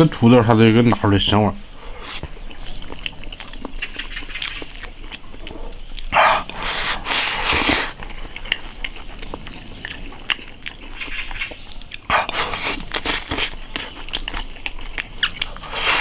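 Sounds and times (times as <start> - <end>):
wet chewing: 0.7 - 16.0
slurping: 1.7 - 16.0.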